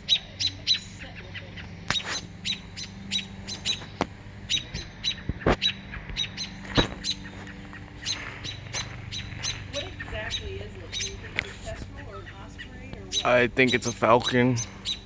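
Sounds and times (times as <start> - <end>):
bird calling in sharp high notes: 0.0 - 15.0.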